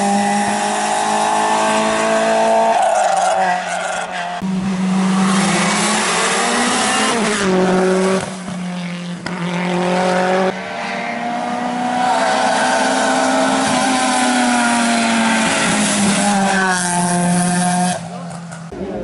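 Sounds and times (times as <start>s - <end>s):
racing car engines at high revs: 0.0s - 18.7s.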